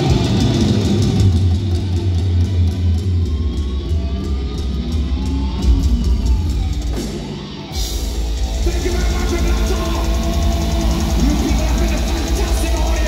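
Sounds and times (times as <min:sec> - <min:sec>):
thrash metal band playing live: 0:00.0 - 0:13.0.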